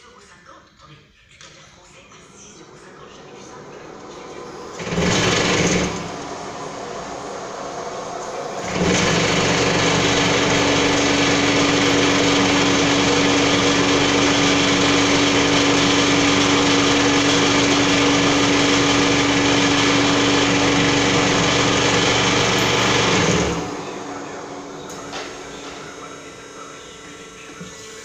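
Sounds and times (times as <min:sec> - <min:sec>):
machine motor humming: 0:02.0 - 0:28.0.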